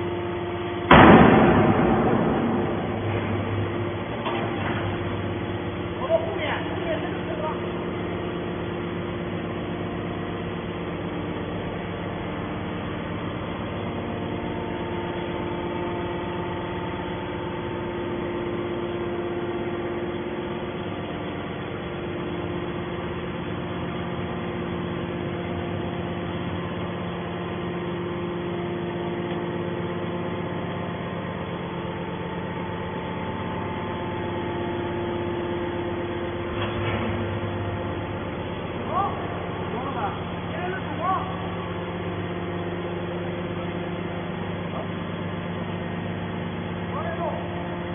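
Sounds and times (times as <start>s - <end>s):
baler machine humming: 0.0s - 47.9s.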